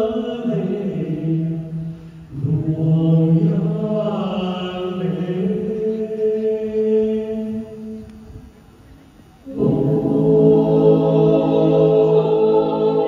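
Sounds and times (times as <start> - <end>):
mixed choir singing in harmony: 0.0 - 8.1, 9.4 - 13.0.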